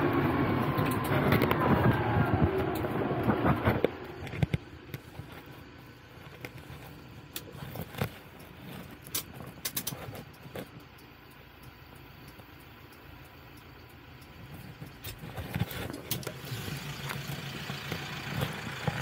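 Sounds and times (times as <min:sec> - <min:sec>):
vehicle driving on road: 0:00.0 - 0:19.0
sharp clicks and knocks: 0:00.6 - 0:05.6, 0:06.2 - 0:16.5.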